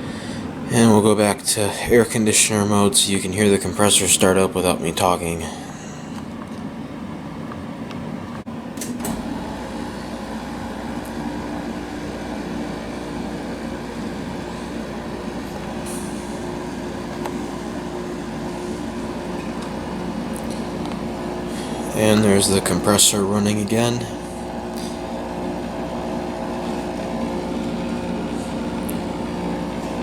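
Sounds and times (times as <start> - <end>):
air conditioner fan running: 0.0 - 30.0
compressor humming: 0.0 - 30.0.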